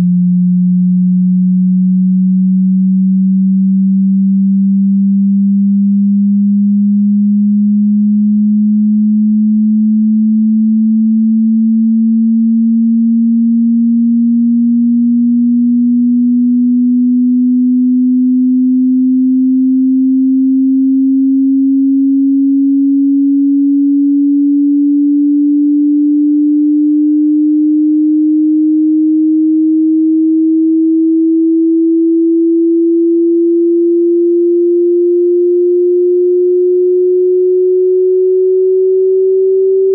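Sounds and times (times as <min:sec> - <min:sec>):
sine tone gliding upward: 0:00.0 - 0:39.9.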